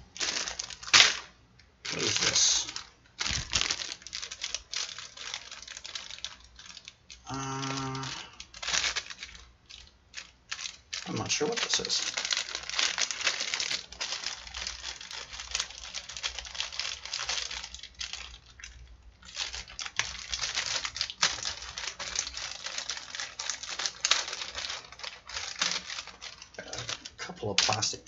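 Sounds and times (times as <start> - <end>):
plastic packaging crinkling: 0.0 - 28.0
small hard parts clicking: 1.9 - 28.0.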